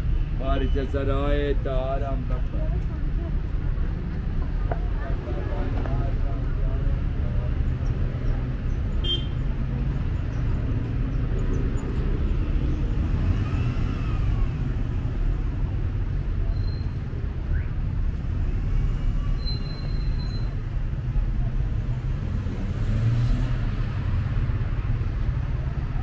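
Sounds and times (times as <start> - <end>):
passing cars rumbling: 0.0 - 26.0.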